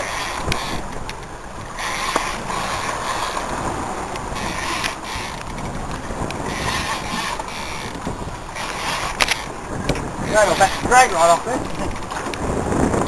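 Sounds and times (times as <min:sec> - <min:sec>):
boat engine: 0:00.0 - 0:13.0
water rushing past hull: 0:00.0 - 0:13.0
wind buffeting microphone: 0:00.0 - 0:13.0.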